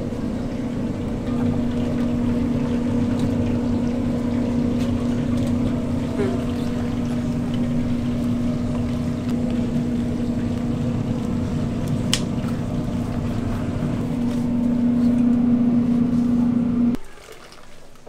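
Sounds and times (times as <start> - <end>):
kitchen equipment hum: 0.0 - 18.0.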